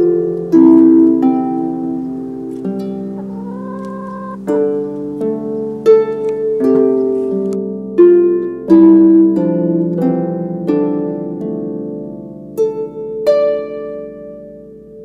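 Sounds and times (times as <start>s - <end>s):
solo harp melody: 0.0s - 15.0s.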